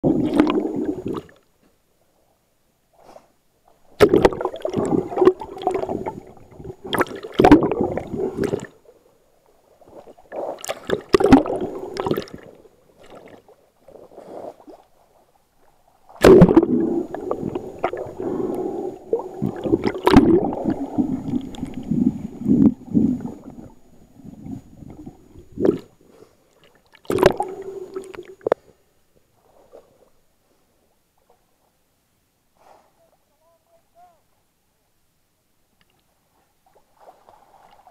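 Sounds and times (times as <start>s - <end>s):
muffled water sloshing and gurgling: 0.0s - 1.4s, 3.7s - 31.8s, 36.2s - 37.9s.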